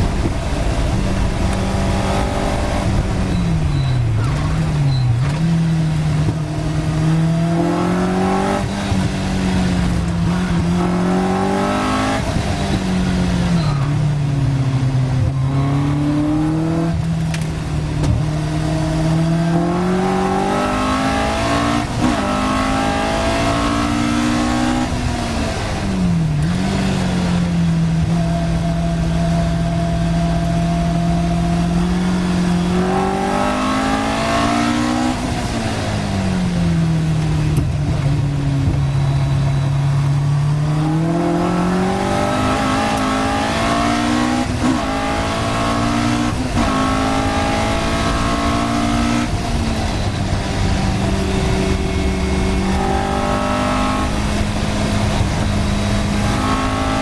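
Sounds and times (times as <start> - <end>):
wind noise: 0.0 - 39.8, 40.6 - 57.0
race car engine revving: 0.0 - 57.0.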